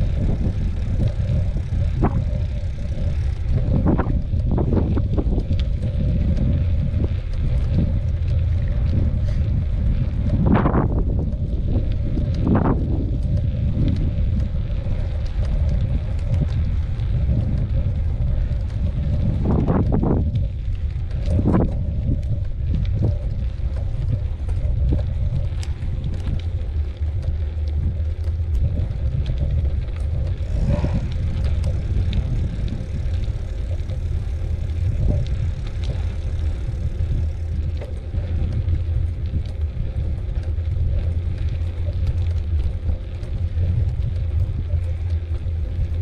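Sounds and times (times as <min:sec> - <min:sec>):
bicycle rattles and clicks: 0:00.0 - 0:46.0
bicycle tyres rolling on trail: 0:00.0 - 0:46.0
wind on microphone: 0:00.0 - 0:46.0.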